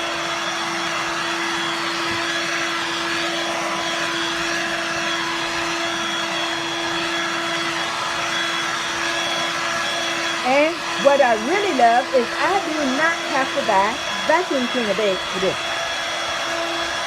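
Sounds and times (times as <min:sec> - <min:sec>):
stick vacuum motor whine: 0:00.0 - 0:17.0.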